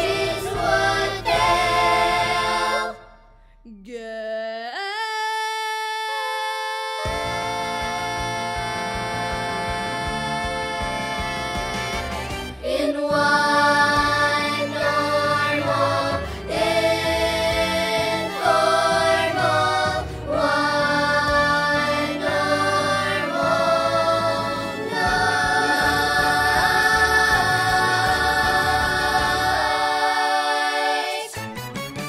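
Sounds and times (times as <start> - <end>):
layered vocal harmonies over music: 0.0 - 3.5, 4.7 - 31.4.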